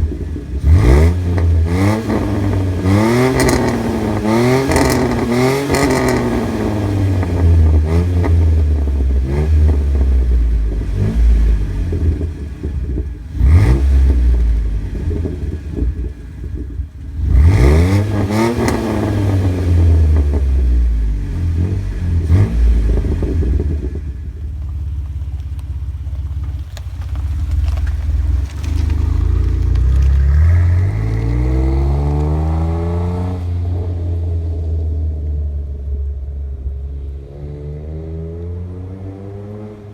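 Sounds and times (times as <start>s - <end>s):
car engine revving: 0.0s - 24.5s, 26.0s - 39.9s.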